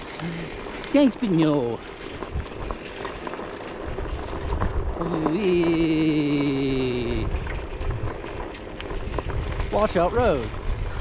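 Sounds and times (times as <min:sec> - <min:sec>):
low rumble of wind and rolling: 0:00.0 - 0:11.0.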